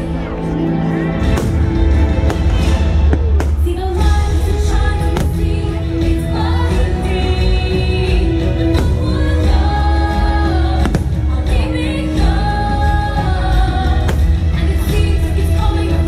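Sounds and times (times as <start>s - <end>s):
music with singing over speakers: 0.0s - 16.0s.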